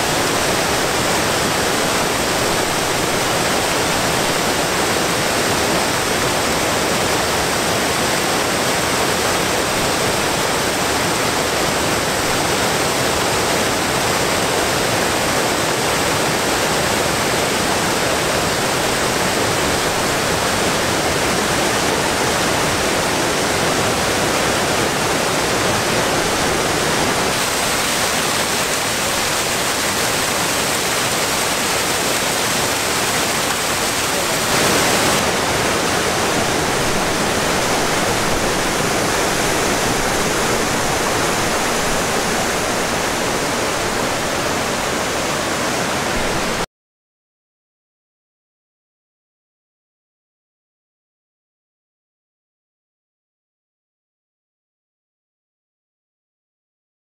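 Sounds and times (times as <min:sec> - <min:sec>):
rush of falling water: 0:00.0 - 0:46.7.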